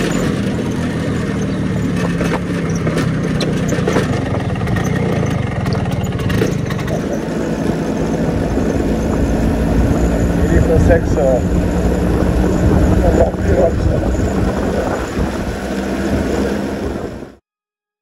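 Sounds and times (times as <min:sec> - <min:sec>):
road and wind noise: 0:00.0 - 0:17.4
scooter engine drone: 0:00.0 - 0:17.4.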